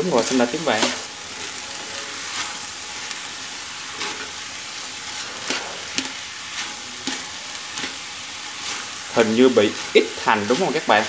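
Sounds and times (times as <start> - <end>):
food sizzling in a wok: 0.0 - 11.0
metal spatula scraping pan: 0.2 - 11.0.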